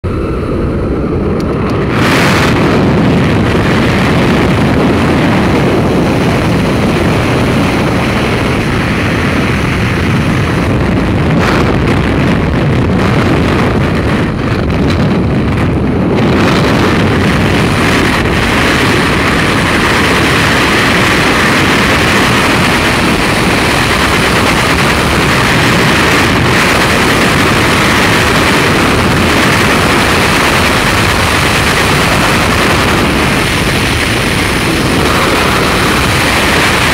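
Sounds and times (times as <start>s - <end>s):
freefall wind buffeting microphone: 0.0s - 36.9s.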